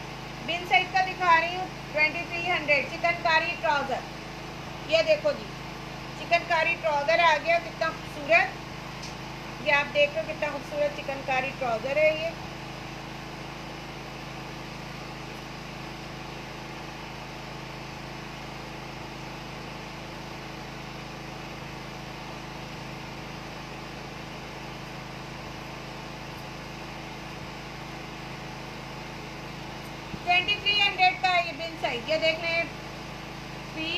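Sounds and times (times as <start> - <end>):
room noise hum and hiss: 0.0 - 33.9.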